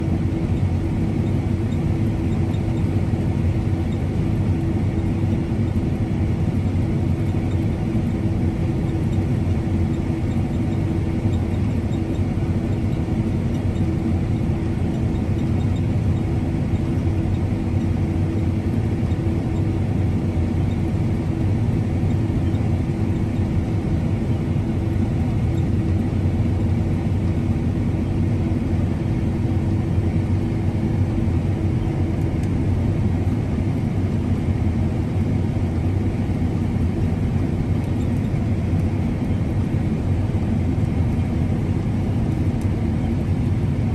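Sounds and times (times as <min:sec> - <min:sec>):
machinery engine humming: 0:00.0 - 0:43.9.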